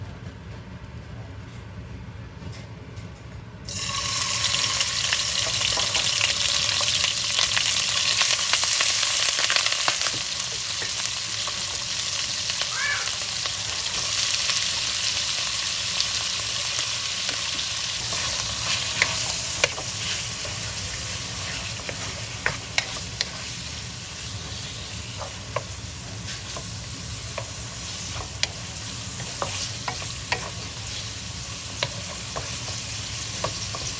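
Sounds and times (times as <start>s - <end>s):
food sizzling in hot oil: 3.7s - 33.9s.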